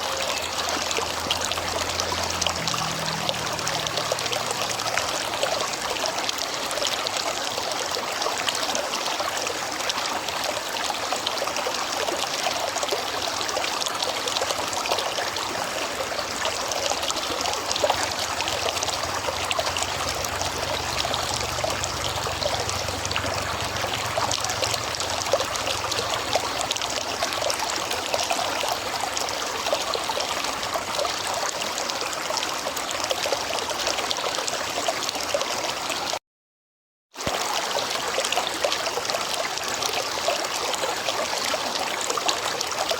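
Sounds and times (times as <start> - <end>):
river water running: 0.0 - 36.2, 37.2 - 42.9.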